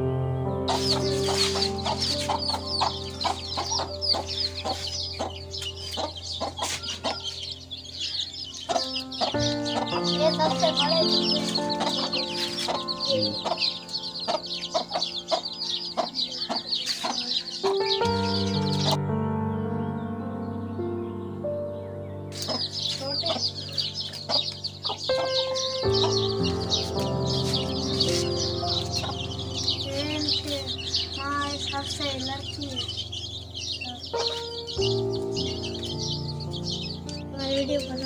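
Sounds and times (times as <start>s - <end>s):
chicks peeping: 0.0s - 38.0s
soft background music: 0.0s - 38.0s
hen clucking: 0.7s - 19.0s, 22.4s - 37.2s.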